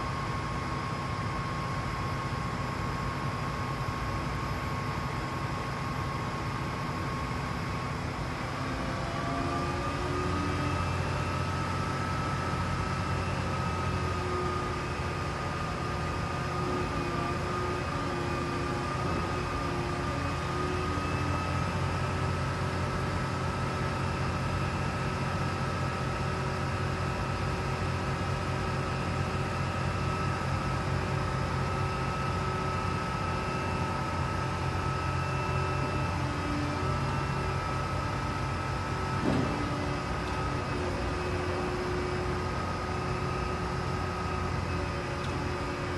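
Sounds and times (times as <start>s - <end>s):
high hydraulic whine: 0.0s - 45.9s
diesel engine running: 2.7s - 45.9s.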